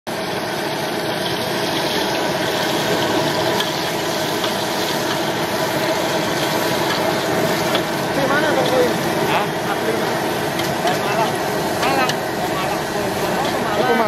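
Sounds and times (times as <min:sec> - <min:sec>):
oil sizzling in a wok: 0:00.1 - 0:14.0.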